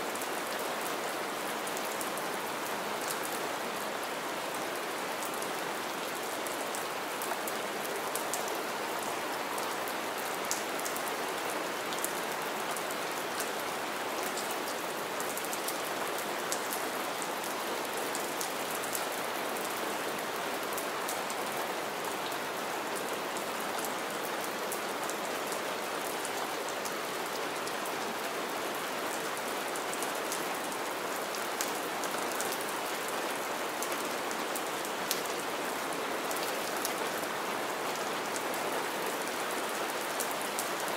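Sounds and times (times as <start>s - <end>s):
rain falling on wet ground: 0.0s - 40.9s.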